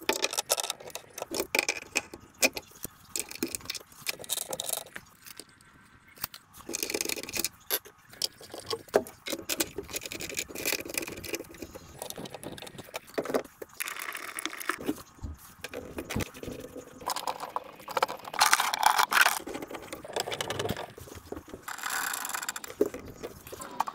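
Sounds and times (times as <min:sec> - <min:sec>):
plastic pipe parts clicking: 0:00.0 - 0:05.5, 0:06.2 - 0:23.9
plastic rubbing: 0:00.0 - 0:23.9.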